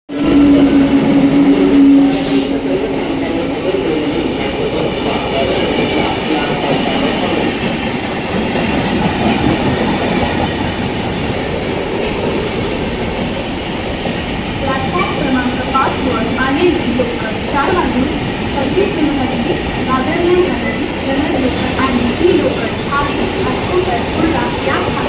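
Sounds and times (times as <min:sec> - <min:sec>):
steady low train tone: 0:00.1 - 0:25.0
rumble of moving coaches: 0:00.2 - 0:25.0.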